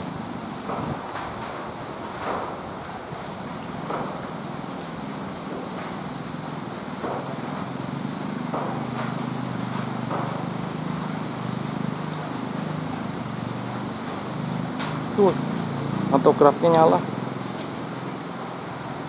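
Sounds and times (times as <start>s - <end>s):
heavy rain hiss: 0.0s - 19.0s.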